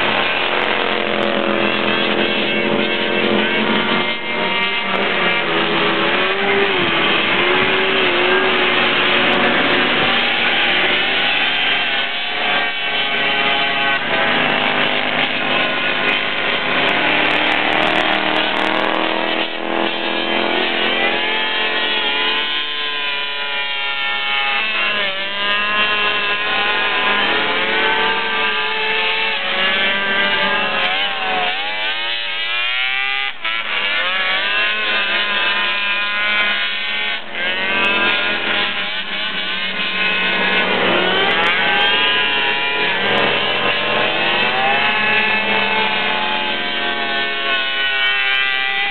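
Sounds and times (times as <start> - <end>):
racing buggy engines revving: 0.0 - 48.9.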